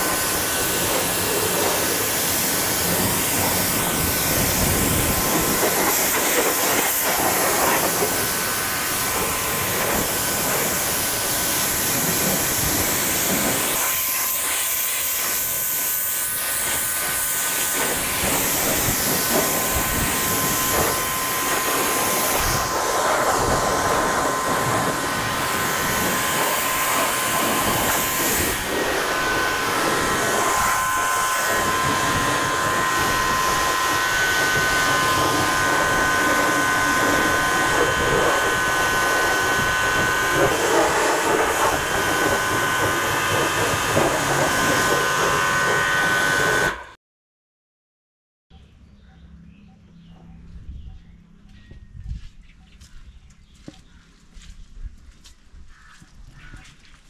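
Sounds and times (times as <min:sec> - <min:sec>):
pressure washer spraying metal: 0:00.0 - 0:46.8
steady whine: 0:00.0 - 0:47.0.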